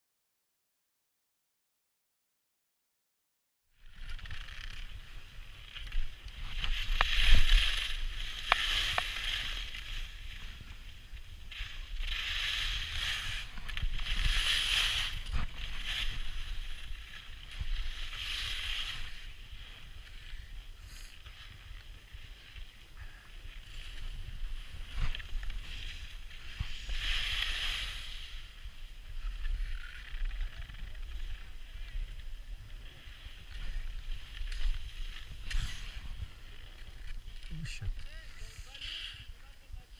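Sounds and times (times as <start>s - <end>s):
skis scraping over hard snow: 3.9s - 39.3s.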